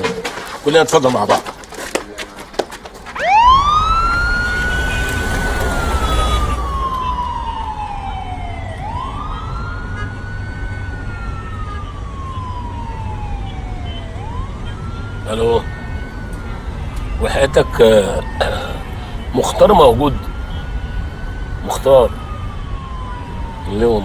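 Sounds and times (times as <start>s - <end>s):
police siren wailing: 3.1s - 24.0s.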